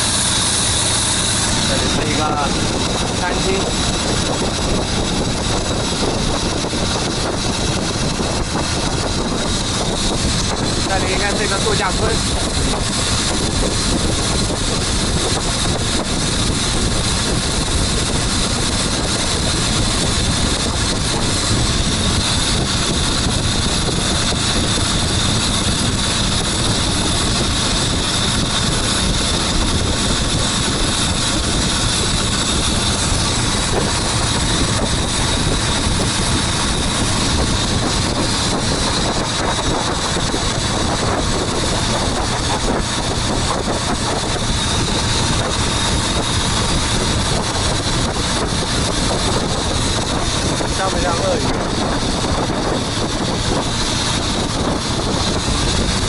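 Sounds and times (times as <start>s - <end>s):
motorboat engine drone: 0.0s - 56.0s
water rushing: 0.0s - 56.0s
wind: 0.0s - 56.0s.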